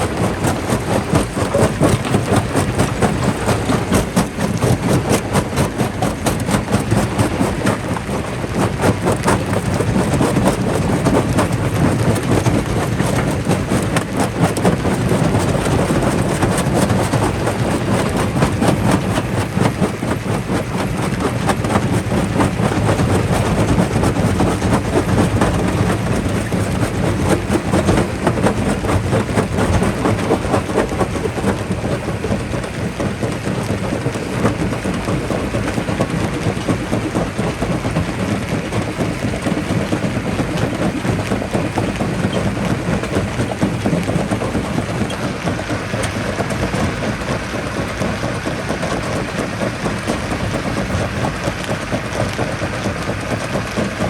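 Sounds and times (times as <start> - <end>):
rock crusher running: 0.0 - 54.0.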